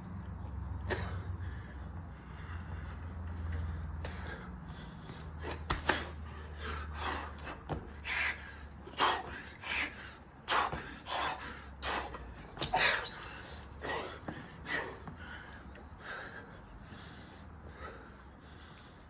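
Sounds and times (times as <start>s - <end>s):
steady low hum: 0.0s - 19.0s
man breathing hard: 0.5s - 19.0s.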